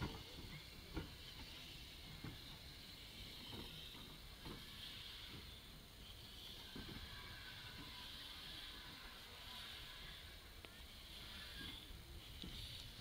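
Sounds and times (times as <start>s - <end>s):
steam hiss: 0.0s - 13.0s
steam locomotive chuffs: 0.0s - 13.0s.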